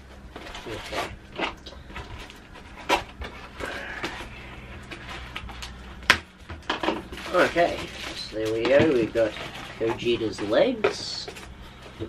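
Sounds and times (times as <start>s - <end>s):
packaging rustling and scraping: 0.0s - 12.0s.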